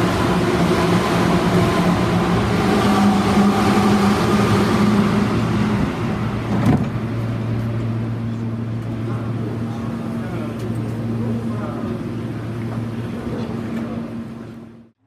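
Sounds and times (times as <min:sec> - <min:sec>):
train hum and rumble: 0:00.0 - 0:15.0.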